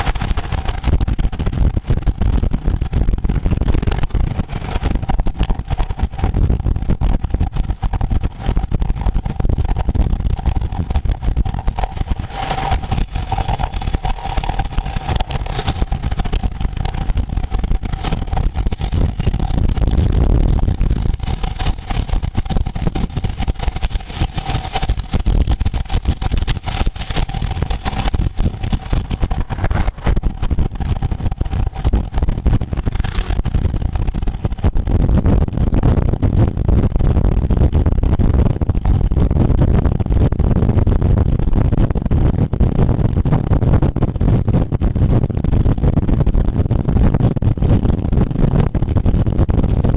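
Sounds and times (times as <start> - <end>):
steady hum: 0.0 - 49.9
wind and road noise rumble: 0.0 - 49.9.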